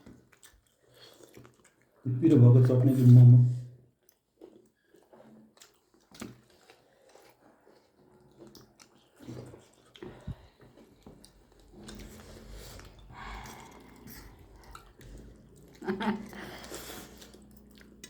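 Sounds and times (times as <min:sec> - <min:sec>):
people chewing dumplings: 0:00.0 - 0:18.0.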